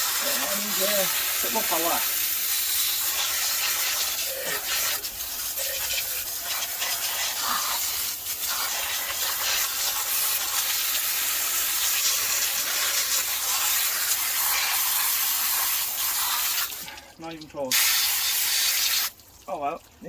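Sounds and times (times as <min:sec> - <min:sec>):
pressure washer spraying water: 0:00.0 - 0:16.9, 0:17.7 - 0:19.1.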